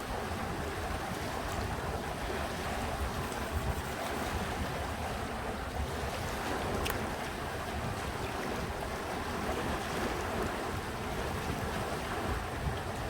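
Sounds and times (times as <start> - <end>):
faint water splashes: 0.0 - 13.0.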